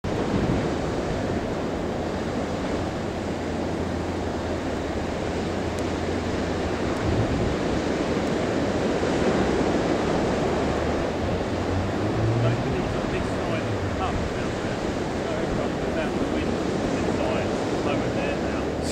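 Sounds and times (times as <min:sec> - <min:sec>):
surf breaking on beach: 0:00.0 - 0:18.9
wind on microphone: 0:00.0 - 0:18.9.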